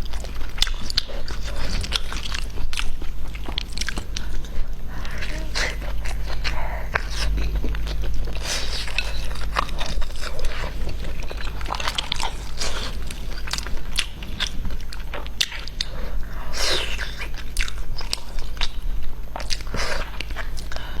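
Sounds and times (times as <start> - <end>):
chewing crunchy food: 0.0 - 21.0
low hum: 0.0 - 21.0.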